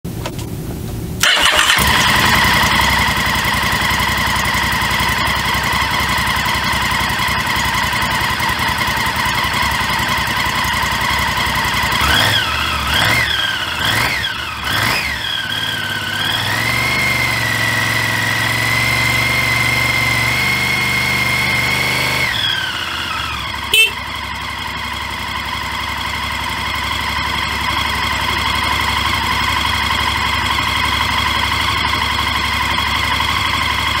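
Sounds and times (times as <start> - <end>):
motorcycle engine idling and revving: 1.2 - 34.0.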